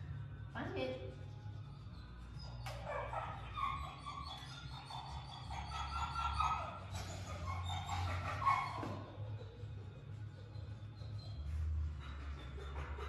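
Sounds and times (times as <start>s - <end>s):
puppy whining: 2.2s - 13.0s.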